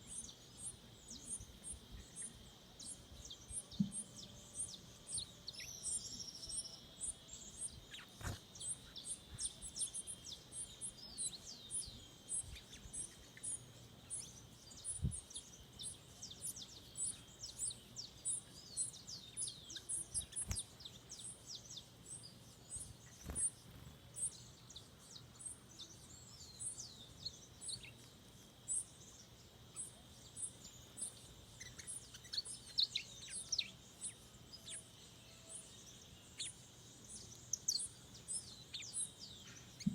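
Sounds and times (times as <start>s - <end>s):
birds chirping: 0.0s - 39.9s
steady high-pitched hiss: 0.0s - 39.9s.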